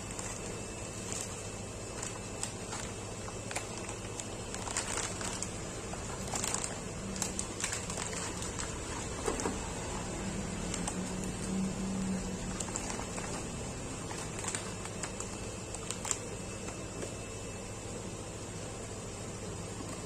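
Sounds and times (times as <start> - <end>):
plastic wrapping crinkling: 0.0 - 17.3.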